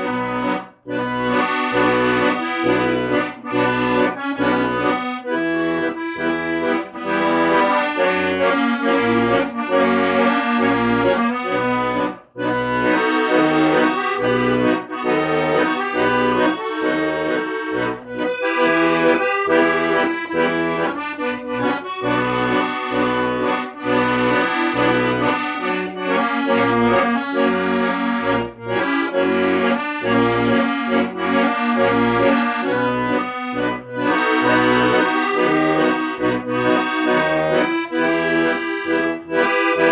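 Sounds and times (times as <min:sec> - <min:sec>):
accordion playing a melody: 0:00.0 - 0:39.9.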